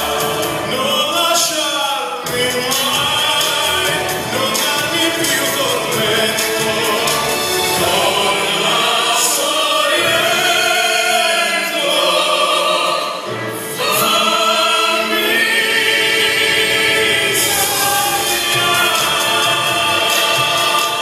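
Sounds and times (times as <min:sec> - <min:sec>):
vocal group singing in harmony: 0:00.0 - 0:21.0.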